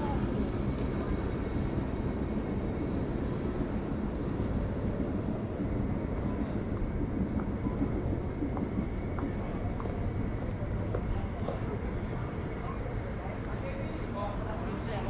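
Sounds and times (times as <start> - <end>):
city street din: 0.0 - 15.0.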